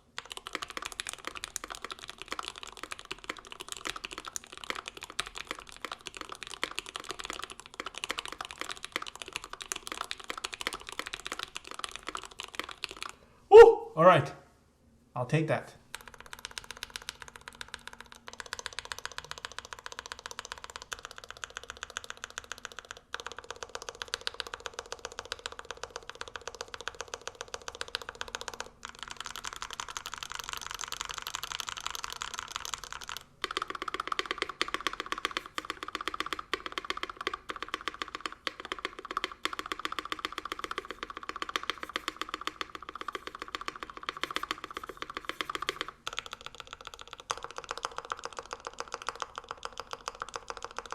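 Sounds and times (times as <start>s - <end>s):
fast typing on mechanical keyboard: 0.0s - 13.2s, 15.9s - 50.9s.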